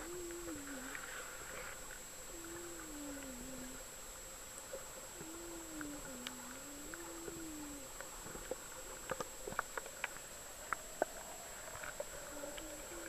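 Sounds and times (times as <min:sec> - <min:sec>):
low wavering underwater hum: 0:00.0 - 0:13.0.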